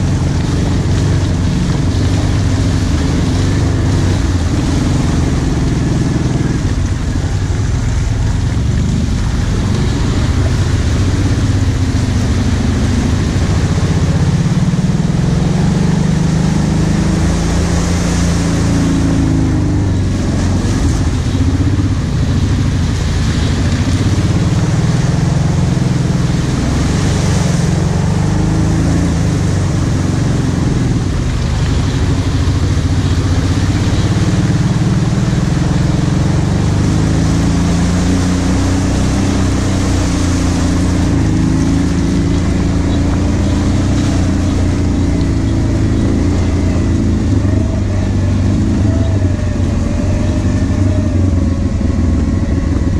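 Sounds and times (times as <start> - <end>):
atv engine running: 0.0 - 52.9.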